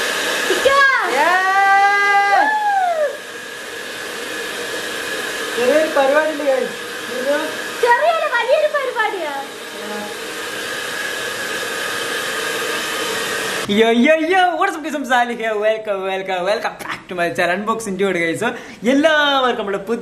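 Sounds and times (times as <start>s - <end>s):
hair dryer blowing: 0.0s - 16.1s.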